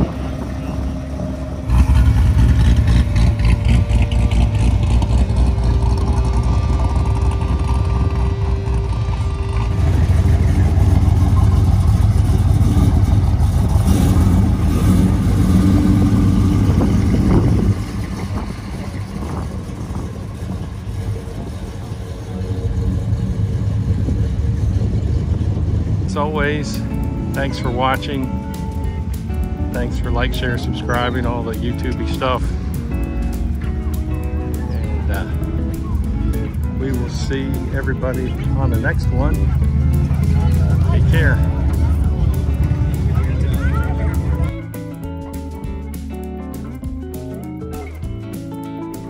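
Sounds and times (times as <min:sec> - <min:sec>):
motor vehicle engine running: 0:00.0 - 0:49.0.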